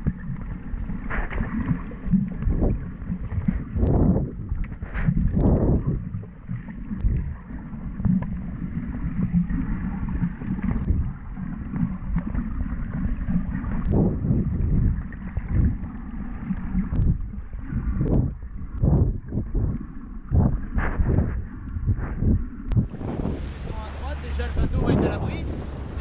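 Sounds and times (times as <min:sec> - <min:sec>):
muffled underwater water rumble: 0:00.0 - 0:26.0.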